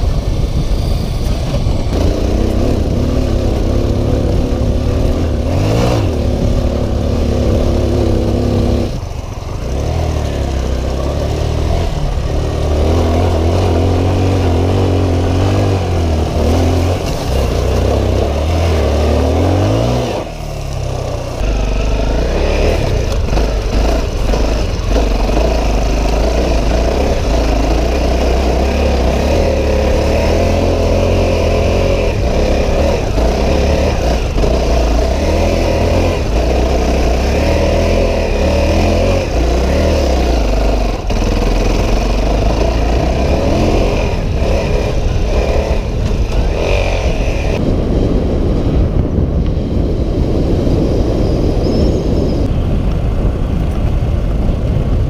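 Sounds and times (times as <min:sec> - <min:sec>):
dirt bike engine revving: 0:01.0 - 0:47.6.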